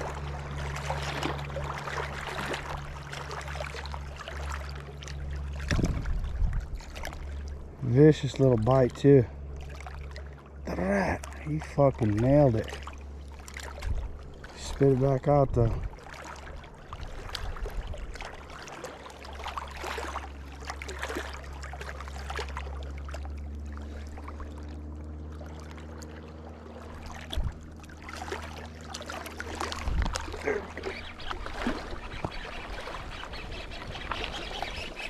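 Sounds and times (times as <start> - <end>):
faint droning tone: 0.0 - 35.0
steady low hum: 0.0 - 35.0
water lapping at shoreline: 0.0 - 35.0.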